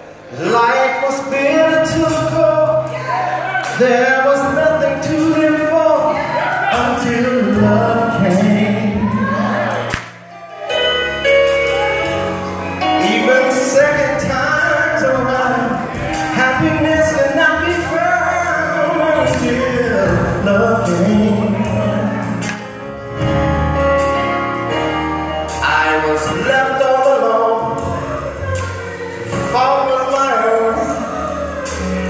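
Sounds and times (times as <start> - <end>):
keyboard accompaniment: 0.0 - 32.0
sustained bass notes: 0.0 - 32.0
man singing into a microphone: 0.3 - 9.9, 12.8 - 22.6, 25.5 - 32.0.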